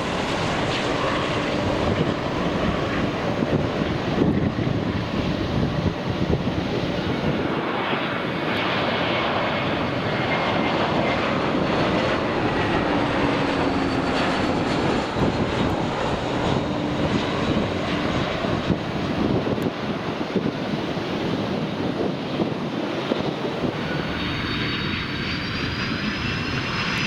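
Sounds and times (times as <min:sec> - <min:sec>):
jet airliner engines roaring: 0:00.0 - 0:27.0.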